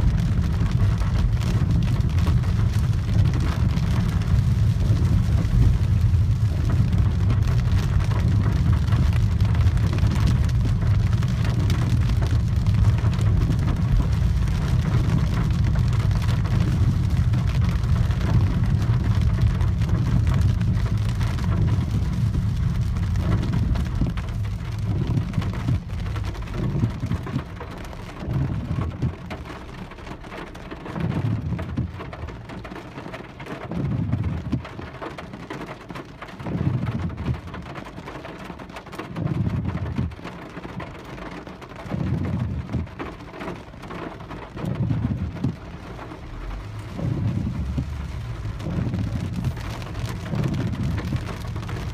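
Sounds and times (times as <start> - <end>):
heavy rain on car body: 0.0 - 51.9
tyres rumbling on wet road: 0.0 - 51.9.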